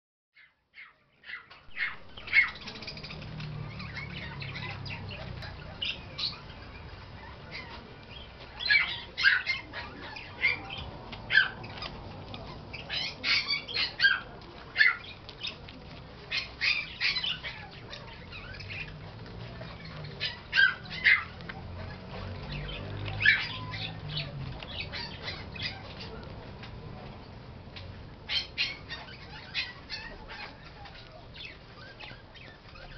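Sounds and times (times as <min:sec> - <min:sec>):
puppies squeaking and yipping: 0:00.4 - 0:26.8, 0:27.8 - 0:32.9.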